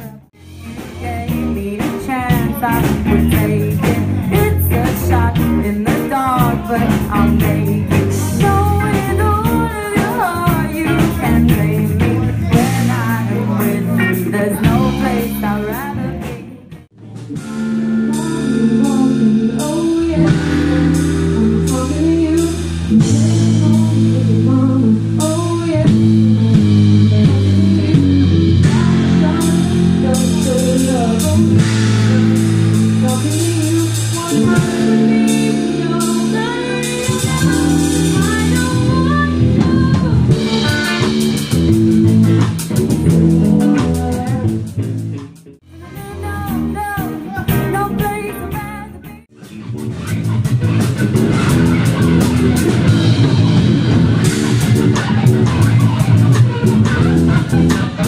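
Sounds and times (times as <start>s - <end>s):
person singing: 0.0s - 45.0s, 45.6s - 49.3s
bass guitar: 0.0s - 58.0s
drum kit: 0.0s - 58.0s
electric guitar: 0.0s - 58.0s.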